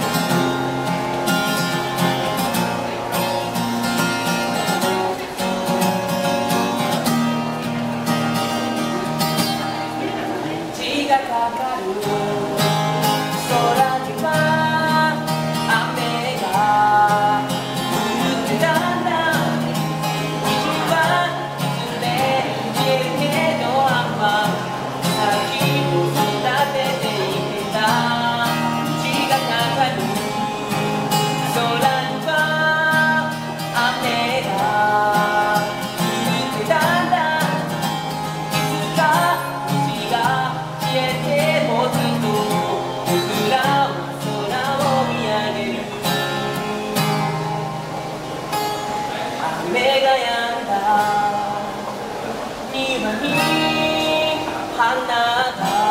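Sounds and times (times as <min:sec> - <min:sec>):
acoustic guitar strumming: 0:00.0 - 0:55.9
person singing: 0:09.4 - 0:47.5, 0:49.1 - 0:55.9.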